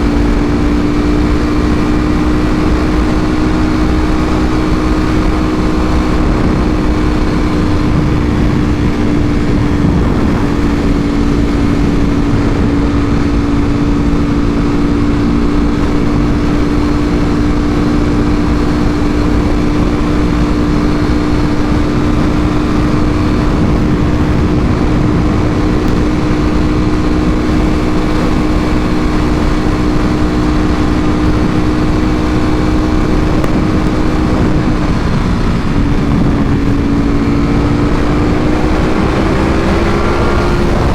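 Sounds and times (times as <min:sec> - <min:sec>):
low rushing noise: 0:00.0 - 0:40.9
motorcycle engine at steady revs: 0:00.0 - 0:40.9.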